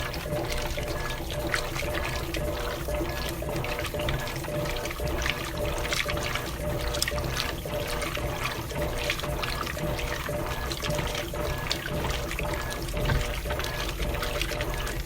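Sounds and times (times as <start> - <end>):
water sloshing in washing machine: 0.0 - 15.0.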